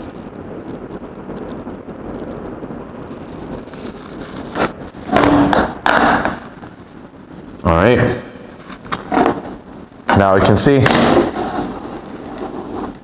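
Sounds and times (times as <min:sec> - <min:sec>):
jet flame hissing: 0:00.0 - 0:13.0.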